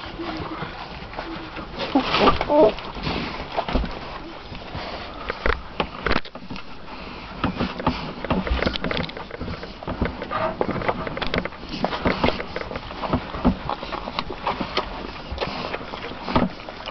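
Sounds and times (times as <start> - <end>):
clicks and rustles: 0.0 - 16.9
puppies snuffling and sucking: 0.0 - 16.9.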